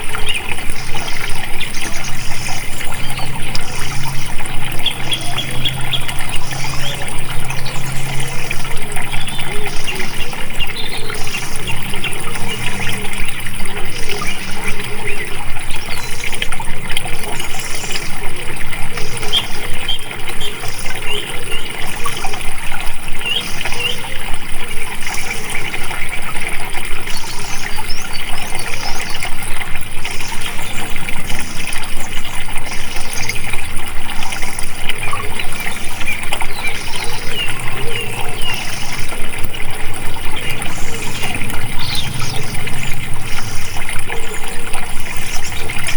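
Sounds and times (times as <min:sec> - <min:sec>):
flowing water splashing: 0:00.0 - 0:45.9.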